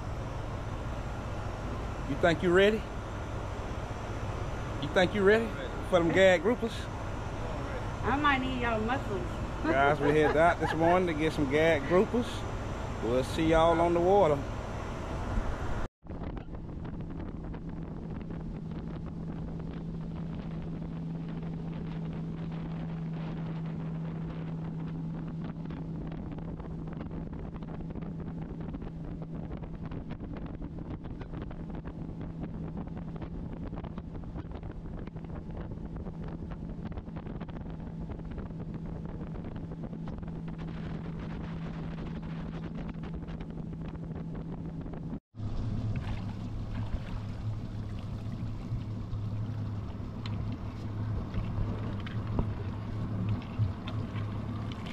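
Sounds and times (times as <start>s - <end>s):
boat engine running: 0.0s - 54.9s
low steady hum: 0.0s - 54.9s
water rushing along a hull: 0.0s - 54.9s
wind buffeting the microphone: 0.0s - 54.9s.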